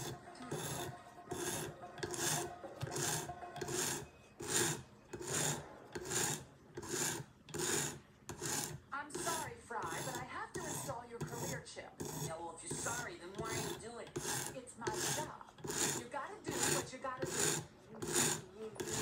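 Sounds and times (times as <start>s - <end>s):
sharpening stone scraping knife blade: 0.0s - 19.0s.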